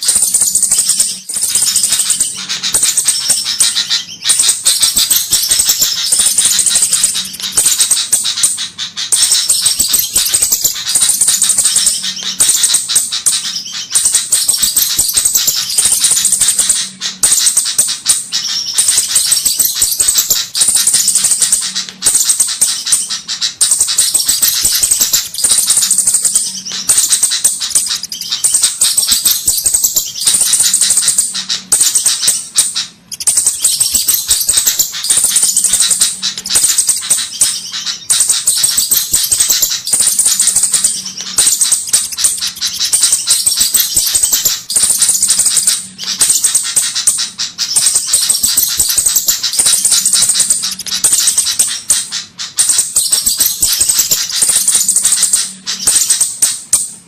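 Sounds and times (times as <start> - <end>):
high-pitched bird chips: 0.0 - 57.0.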